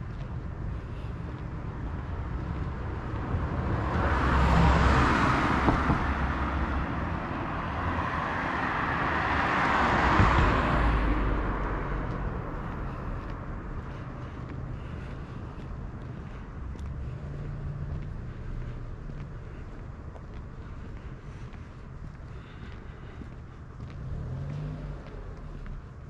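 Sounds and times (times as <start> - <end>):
cars passing by: 0.0 - 26.0.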